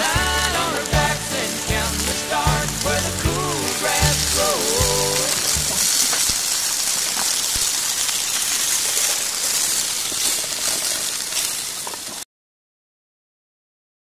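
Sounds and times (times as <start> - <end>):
fish sizzling in a skillet: 0.0 - 12.2.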